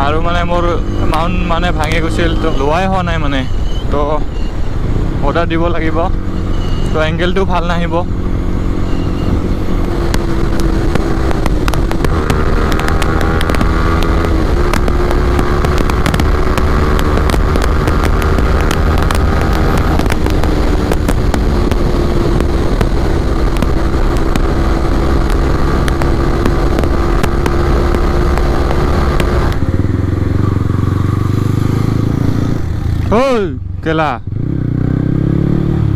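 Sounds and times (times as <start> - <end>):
riding wind noise: 0.0 - 33.5
motorcycle engine running: 5.9 - 35.9.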